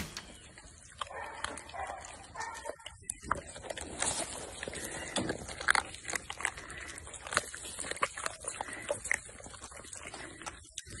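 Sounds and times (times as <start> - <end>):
puppies crunching dry kibble: 0.0 - 11.0.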